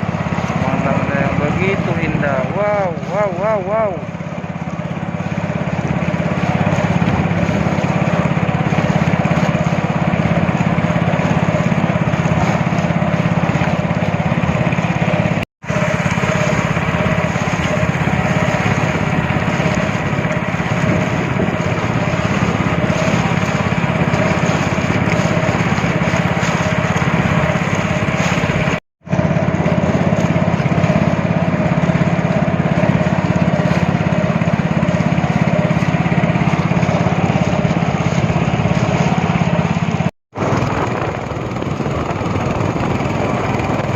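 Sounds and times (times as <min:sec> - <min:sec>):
speedboat engine running: 0:00.0 - 0:43.9
rush of noise: 0:04.7 - 0:43.9.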